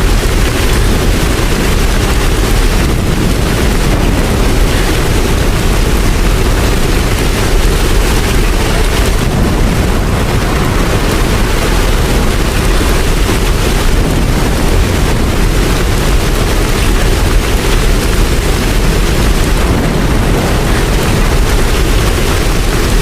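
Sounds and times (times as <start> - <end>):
deep low rumble: 0.0 - 23.0
steady rain falling: 0.0 - 23.0.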